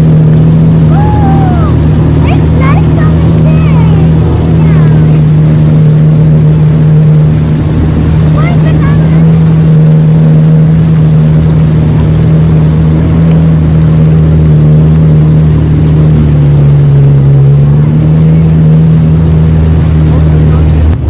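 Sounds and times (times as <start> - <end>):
jet ski engine drone: 0.0 - 21.0.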